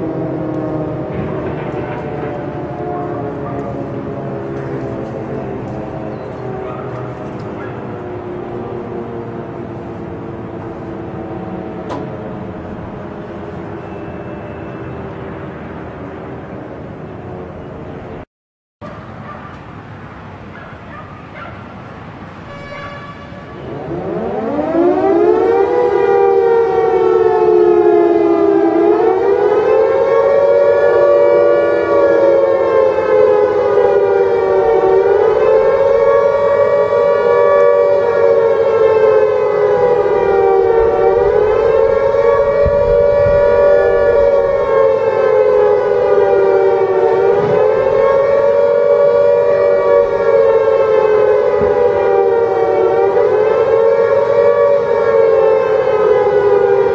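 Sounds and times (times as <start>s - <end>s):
siren wailing: 0.0s - 18.2s, 22.2s - 56.9s.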